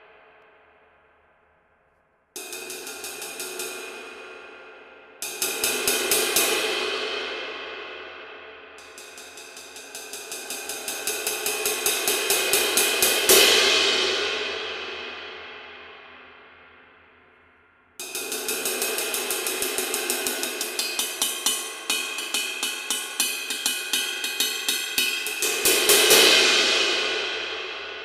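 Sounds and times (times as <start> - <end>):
ride cymbal struck with drumstick: 2.4 - 8.2, 8.8 - 15.4, 18.0 - 28.0.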